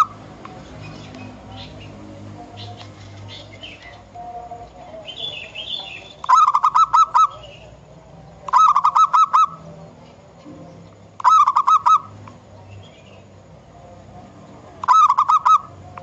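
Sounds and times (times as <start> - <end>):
dove cooing: 0.0 - 9.8, 10.4 - 12.2, 14.8 - 16.0.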